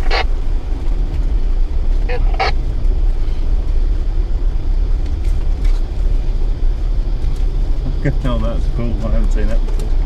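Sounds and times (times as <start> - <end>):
vehicle engine low rumble: 0.0 - 10.0.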